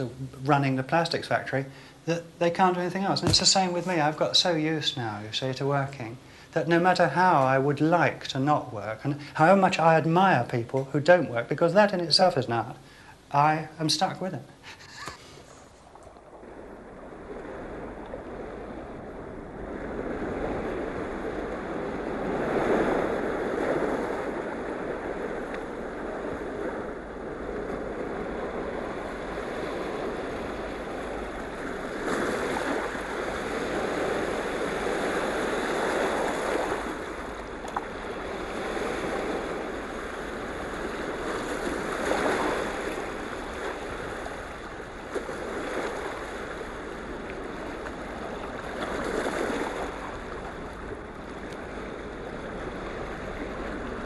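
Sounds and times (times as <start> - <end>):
sea waves washing on shore: 0.0 - 54.0.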